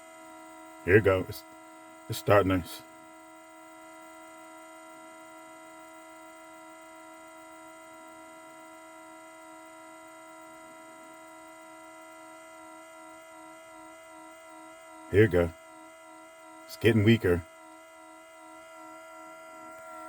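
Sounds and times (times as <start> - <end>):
high-pitched electrical hum: 0.0 - 20.0.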